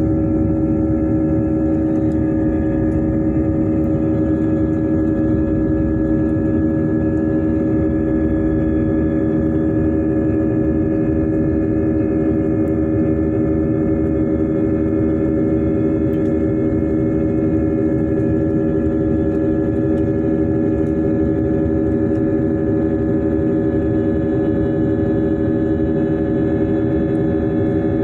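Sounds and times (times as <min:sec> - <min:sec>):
jet engines droning in cabin: 0:00.0 - 0:28.0.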